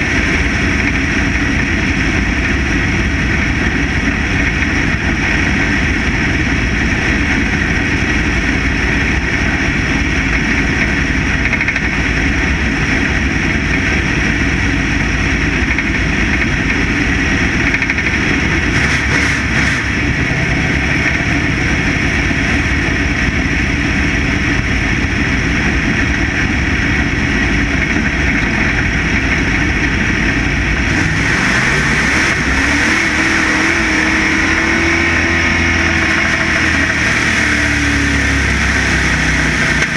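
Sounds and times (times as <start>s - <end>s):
race car engine running hard: 0.0s - 39.9s
rushing noise: 0.0s - 39.9s.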